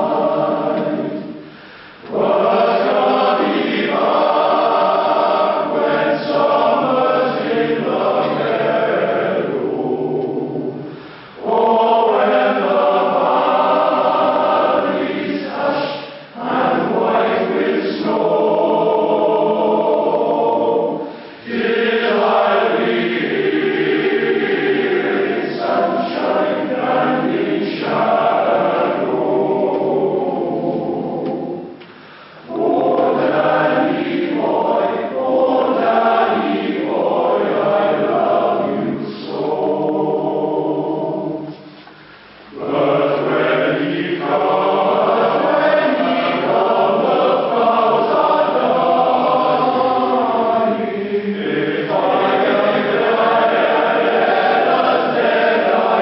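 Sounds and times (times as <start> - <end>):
choir singing: 0.0 - 31.8, 32.4 - 56.0.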